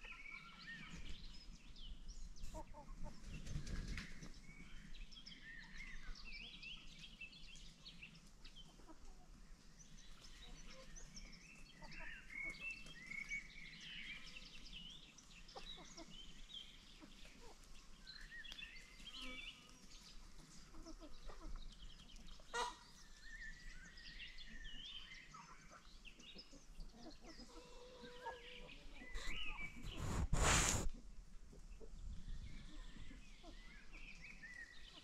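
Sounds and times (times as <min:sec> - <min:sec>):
wild birds chirping: 0:03.3 - 0:30.9, 0:32.0 - 0:35.0.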